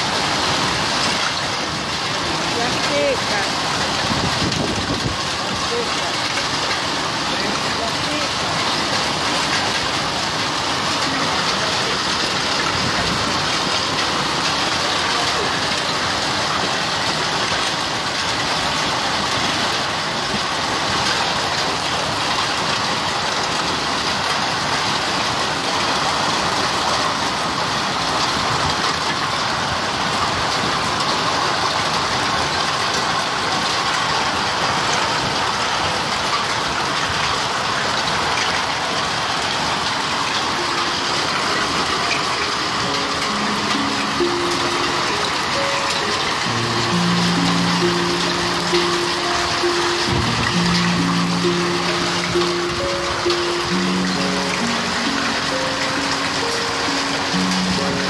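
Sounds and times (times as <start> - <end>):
hail and rain on a lawn: 0.0 - 58.0.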